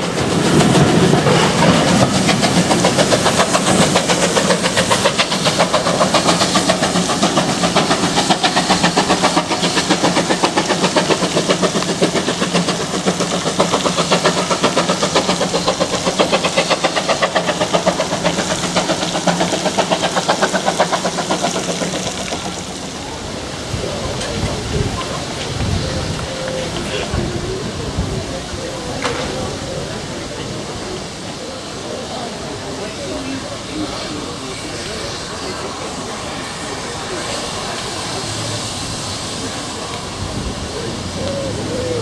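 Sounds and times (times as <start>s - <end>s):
railway locomotive working: 0.0s - 42.0s.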